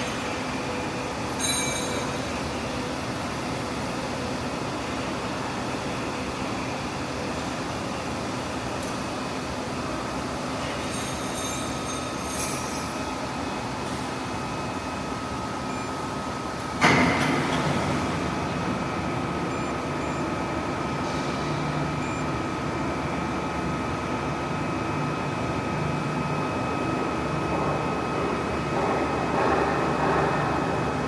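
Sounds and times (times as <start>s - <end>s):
press brake machine hum: 0.0s - 31.0s.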